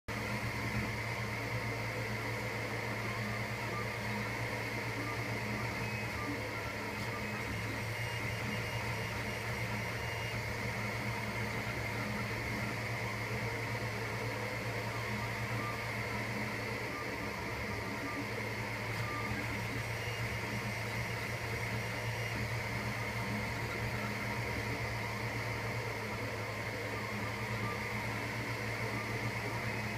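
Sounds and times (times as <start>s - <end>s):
fans and motors humming: 0.1s - 29.9s
print head whining: 0.1s - 29.9s.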